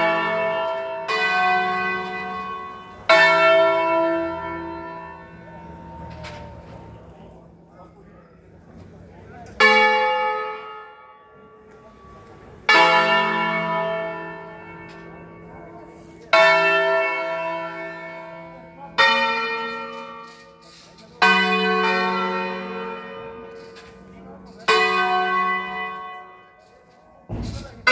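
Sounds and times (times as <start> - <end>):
church bells ringing: 0.0 - 27.9.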